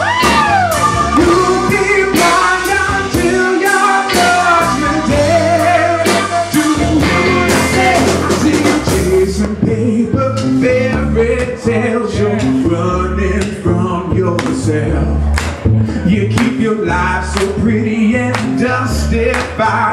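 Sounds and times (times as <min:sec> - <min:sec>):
live soul band playing: 0:00.0 - 0:19.9
man singing: 0:00.0 - 0:19.9.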